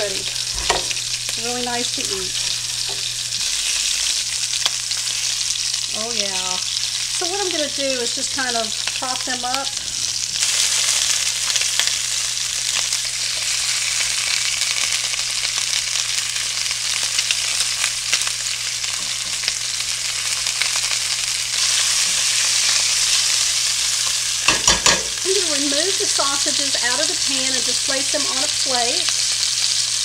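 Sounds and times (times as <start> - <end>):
sausages sizzling in oil: 0.0 - 30.0.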